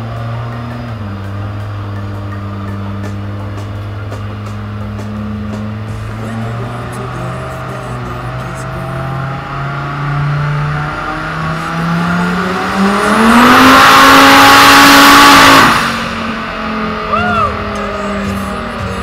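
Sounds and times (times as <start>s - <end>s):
car engine revving at full throttle: 0.0s - 19.0s.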